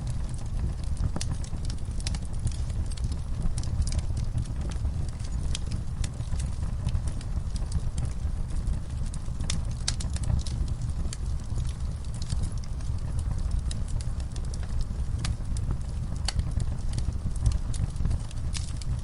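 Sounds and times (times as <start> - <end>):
sharp pops and snaps of fire: 0.0 - 19.0
wood fire crackling: 0.0 - 19.0.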